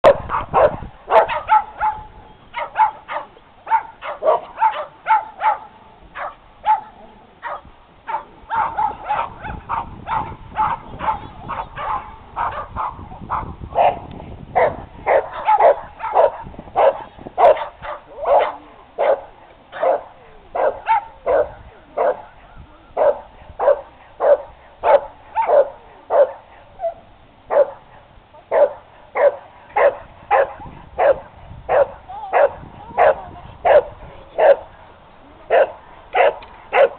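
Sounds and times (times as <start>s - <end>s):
dog barking excitedly: 0.0s - 14.0s, 14.6s - 22.3s, 23.0s - 27.8s, 28.5s - 34.7s, 35.5s - 36.9s.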